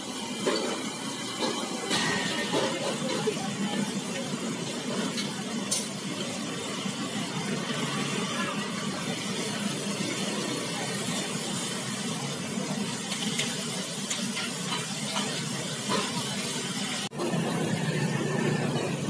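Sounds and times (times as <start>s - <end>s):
beef sizzling on a griddle: 0.0s - 19.0s.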